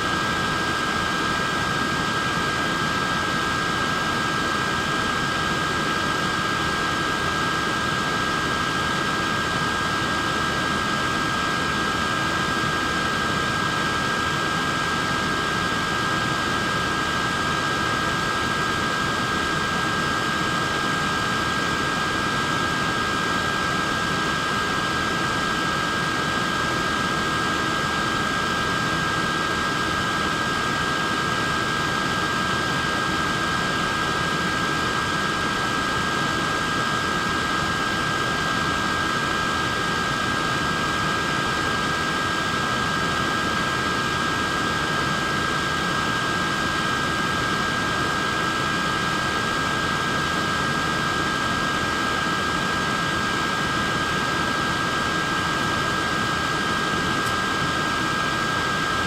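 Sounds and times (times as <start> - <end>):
high constant motor whine: 0.0 - 59.0.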